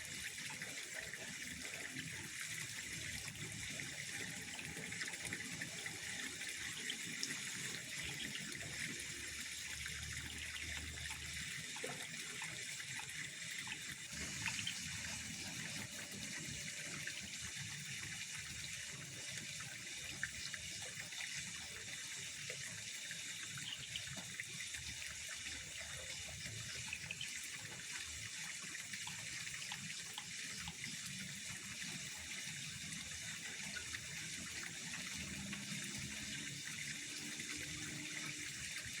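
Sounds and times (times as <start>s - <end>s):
trickling water: 0.0s - 39.0s.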